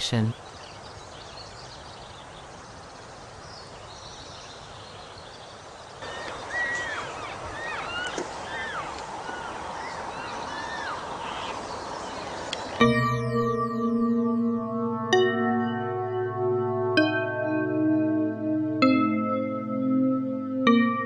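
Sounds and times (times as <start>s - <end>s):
steady outdoor hiss: 0.0s - 20.5s.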